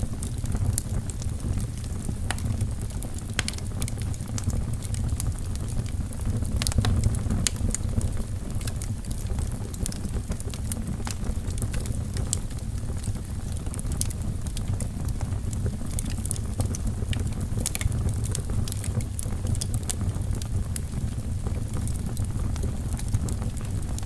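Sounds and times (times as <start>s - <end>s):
flames rumbling: 0.0s - 24.0s
logs crackling and popping: 0.0s - 24.0s.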